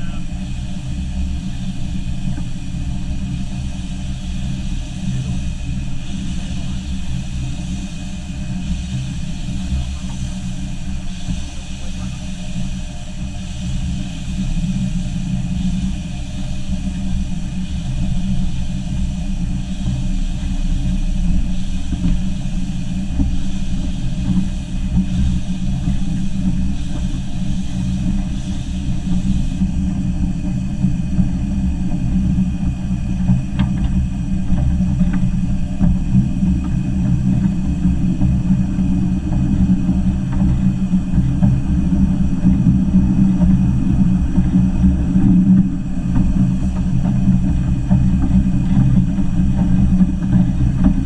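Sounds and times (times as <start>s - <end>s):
steam hiss: 0.0s - 51.0s
steam locomotive rumble: 0.0s - 51.0s.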